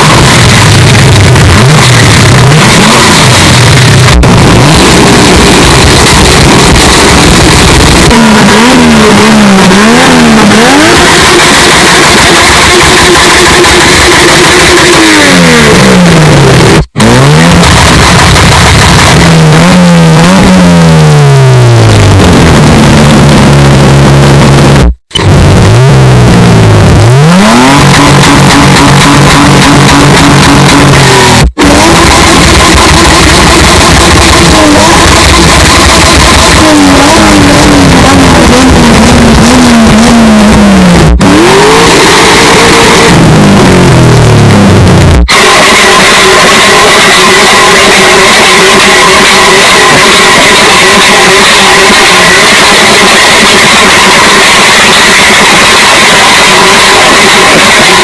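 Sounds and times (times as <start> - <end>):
suv engine revving: 0.0 - 58.0.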